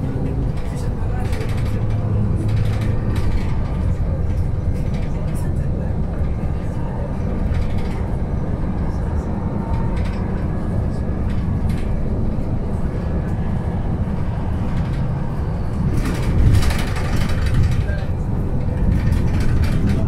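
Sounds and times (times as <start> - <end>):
bus cabin rumble: 0.0 - 20.0.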